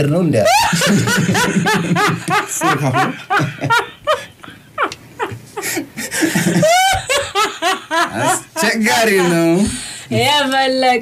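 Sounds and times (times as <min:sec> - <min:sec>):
people laughing: 0:00.4 - 0:09.8.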